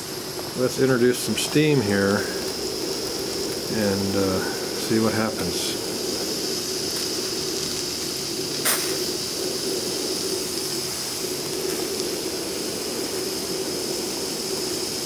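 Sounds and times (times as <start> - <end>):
burner sound: 0.0 - 15.0
steam hissing: 0.0 - 15.0.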